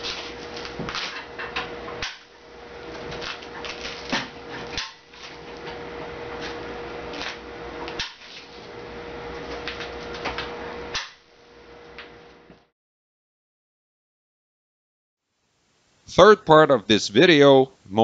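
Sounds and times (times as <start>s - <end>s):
steady background hum: 0.0s - 12.7s, 15.4s - 18.0s.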